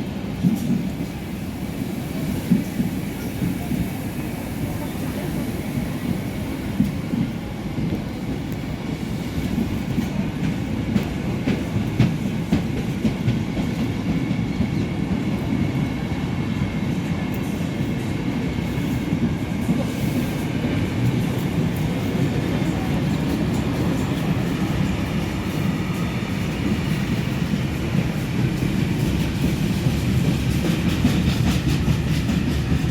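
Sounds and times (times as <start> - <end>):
train rumbling past: 0.0 - 32.9.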